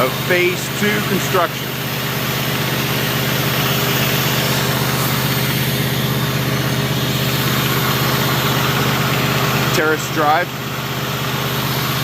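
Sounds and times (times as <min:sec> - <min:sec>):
engine idling with low hum: 0:00.0 - 0:12.0.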